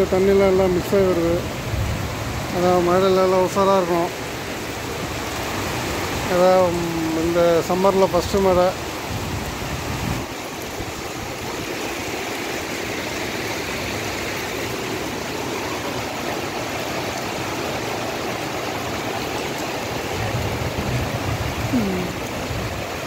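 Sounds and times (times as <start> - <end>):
heavy rain pouring: 0.0 - 23.0
storm water running: 0.0 - 23.0.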